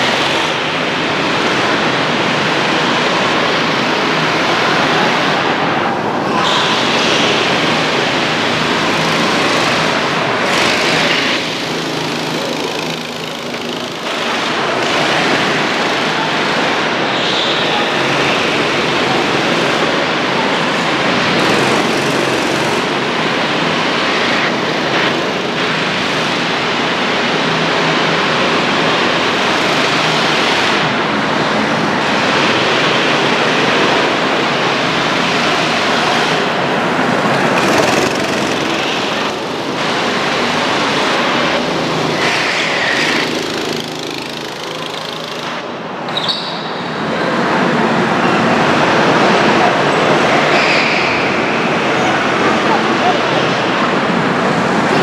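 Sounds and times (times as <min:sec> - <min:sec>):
go-kart engines running: 0:00.0 - 0:55.0.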